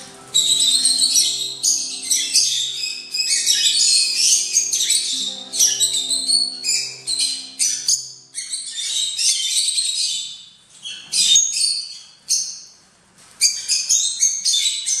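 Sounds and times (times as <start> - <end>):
lovebirds chirping and squawking: 0.0 - 12.5.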